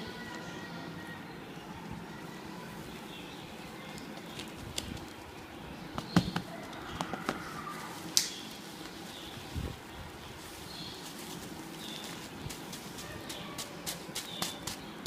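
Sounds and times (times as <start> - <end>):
birds calling faintly: 0.0 - 15.0.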